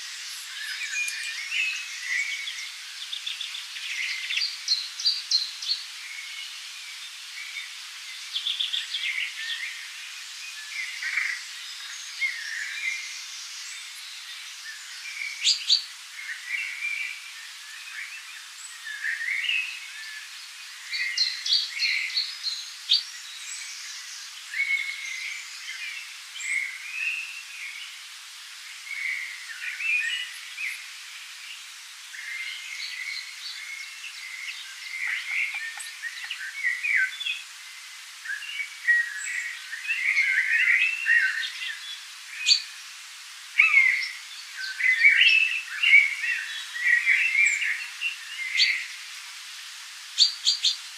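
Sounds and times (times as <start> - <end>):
birds singing in chorus: 0.0 - 50.9.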